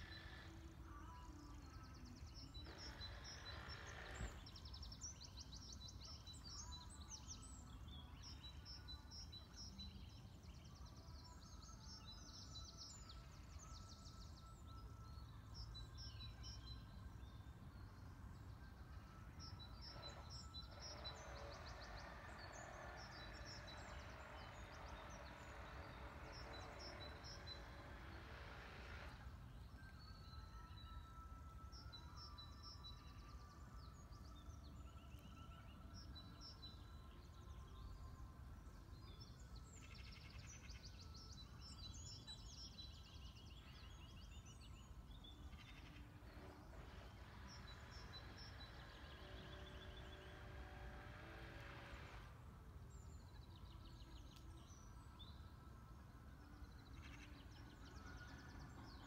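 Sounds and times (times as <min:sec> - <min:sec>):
birds chirping and singing: 0:00.0 - 0:59.0
low steady background hum: 0:00.0 - 0:59.0.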